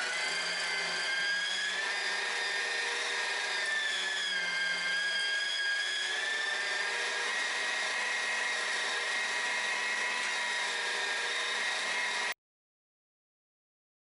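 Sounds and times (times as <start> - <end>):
electric meat grinder whine: 0.0 - 12.4.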